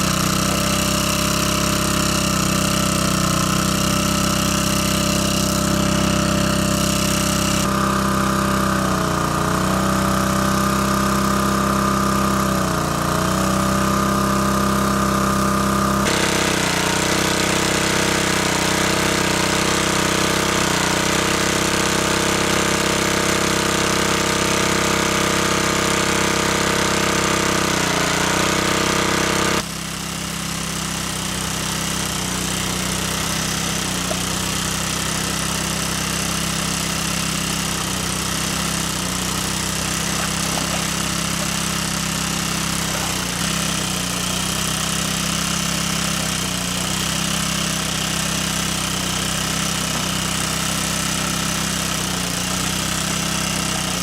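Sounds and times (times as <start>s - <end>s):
motor droning: 0.0s - 29.7s, 31.0s - 54.0s.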